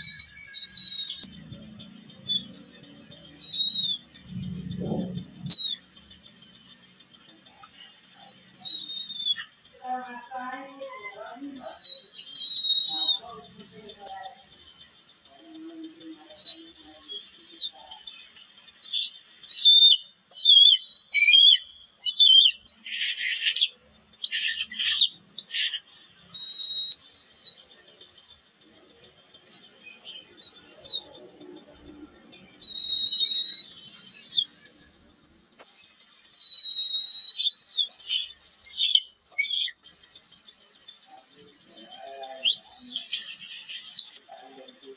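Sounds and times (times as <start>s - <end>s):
eagle chicks peeping: 0.0s - 44.9s.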